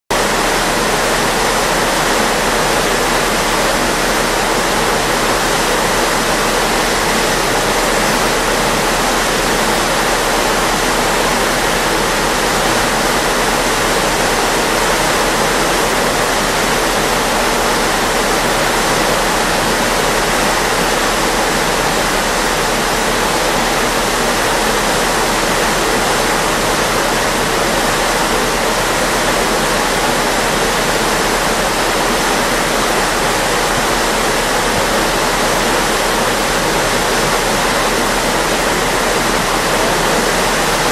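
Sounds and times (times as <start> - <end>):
churning water rushing: 0.1 - 40.9.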